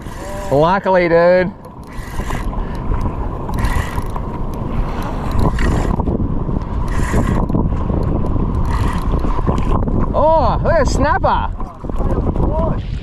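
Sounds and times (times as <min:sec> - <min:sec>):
water washing against kayak: 0:00.0 - 0:13.0
wind buffeting microphone: 0:00.0 - 0:13.0.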